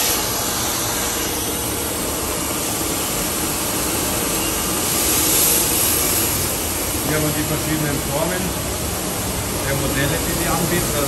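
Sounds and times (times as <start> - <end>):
dust extraction running: 0.0 - 11.0.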